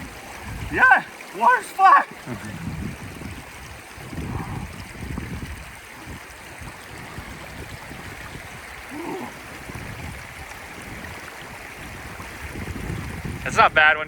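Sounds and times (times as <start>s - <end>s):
creek water rushing and gurgling: 0.0s - 14.0s.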